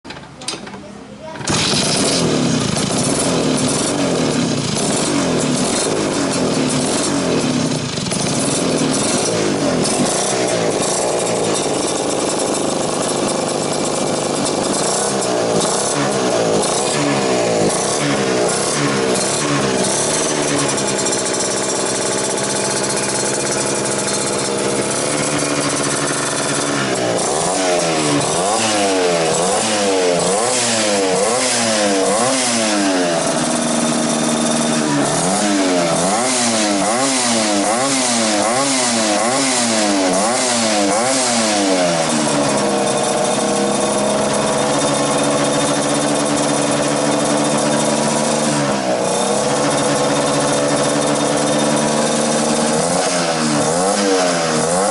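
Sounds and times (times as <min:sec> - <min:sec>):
scooter engine idling: 0:00.1 - 0:54.9
scooter throttle blips: 0:00.2 - 0:54.9.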